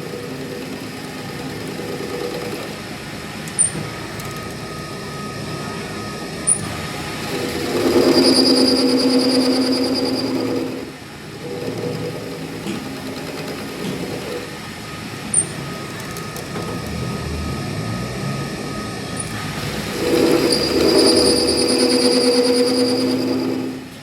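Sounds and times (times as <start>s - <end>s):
workshop machine whining: 0.0s - 24.0s.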